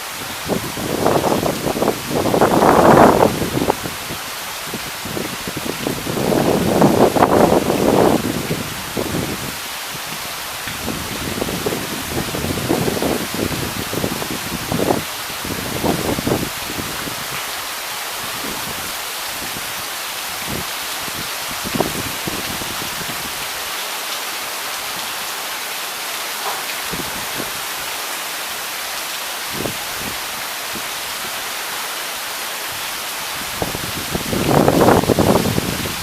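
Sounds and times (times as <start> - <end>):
louder rain patters: 0.0 - 36.0
steady rain falling: 0.0 - 36.0.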